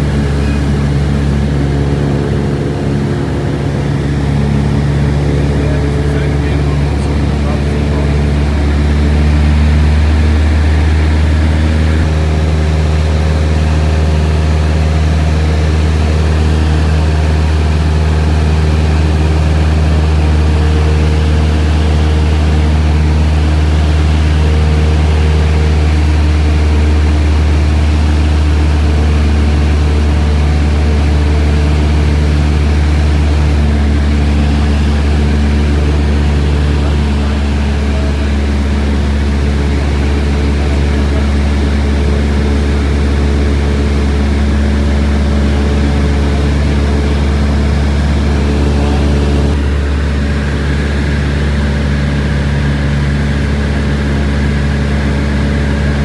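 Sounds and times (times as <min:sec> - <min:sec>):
light aircraft cabin drone: 0:00.0 - 0:56.0.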